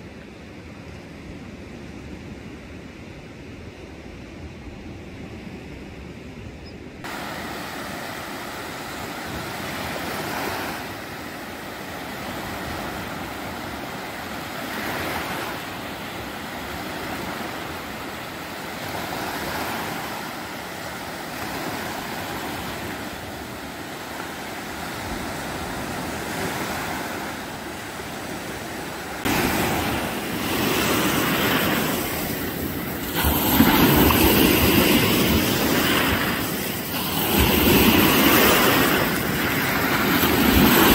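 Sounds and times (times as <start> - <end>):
surf breaking on a beach: 7.0 - 40.9.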